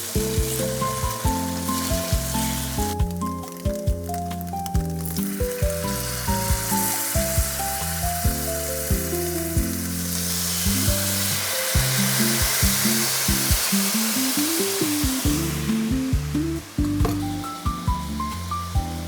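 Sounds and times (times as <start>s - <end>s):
background music with beat: 0.0s - 19.0s
tofu sizzling in a frying pan: 0.0s - 19.0s.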